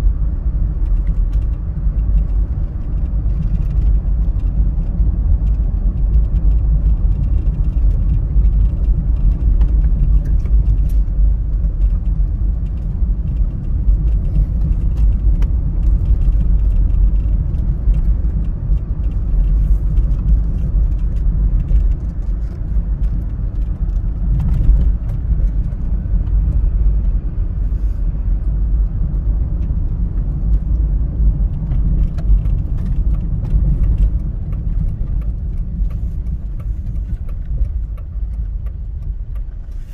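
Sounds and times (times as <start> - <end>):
engine and road noise rumble: 0.0 - 39.9.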